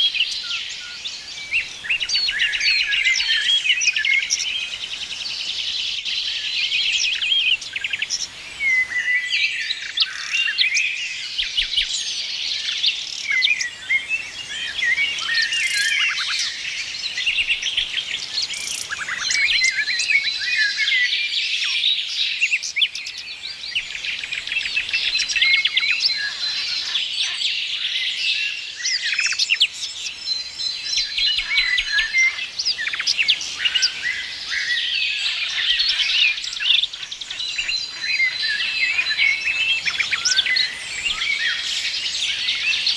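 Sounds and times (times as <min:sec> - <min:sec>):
songbirds singing and chirping: 0:00.0 - 0:42.9.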